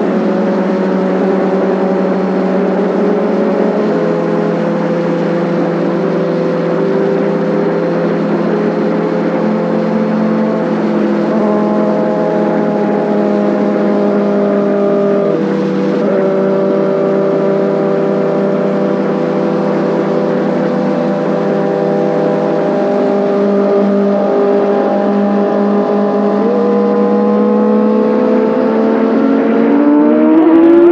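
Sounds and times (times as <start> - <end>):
motorcycle engine high-pitched: 0.0 - 30.9.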